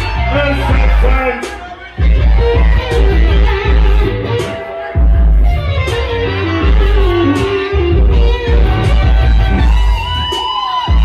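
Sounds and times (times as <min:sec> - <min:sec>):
electric guitar lead lines: 0:00.0 - 0:11.0.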